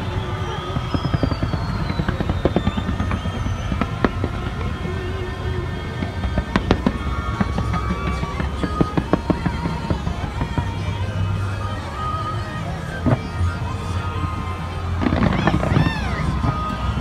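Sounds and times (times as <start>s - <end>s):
fireworks bangs and crackles: 0.0s - 17.0s
sharp fireworks cracks: 0.0s - 17.0s.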